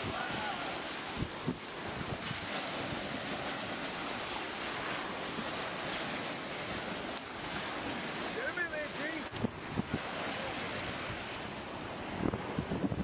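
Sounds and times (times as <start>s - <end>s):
wind buffeting microphone: 0.0s - 8.4s, 9.2s - 13.0s
surf: 0.0s - 13.0s
wind: 0.0s - 13.0s.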